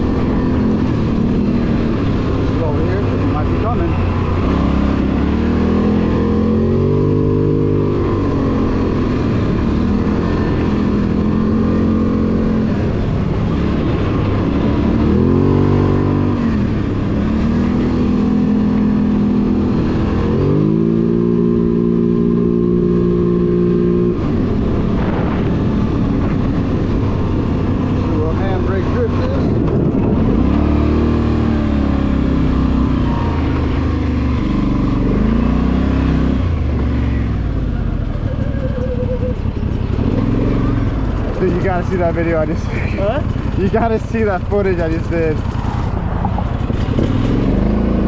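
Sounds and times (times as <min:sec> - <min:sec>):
atv engine revving: 0:00.0 - 0:48.0
steady rushing noise: 0:00.0 - 0:48.0.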